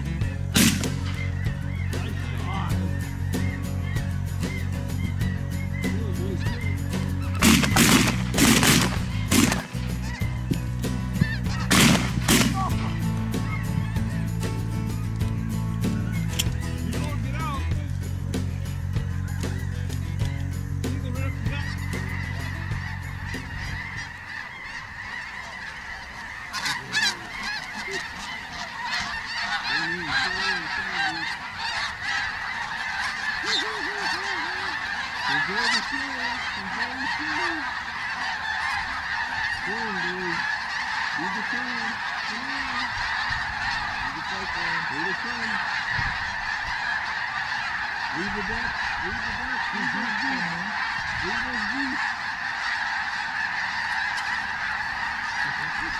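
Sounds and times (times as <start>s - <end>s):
geese honking: 0.0s - 55.9s.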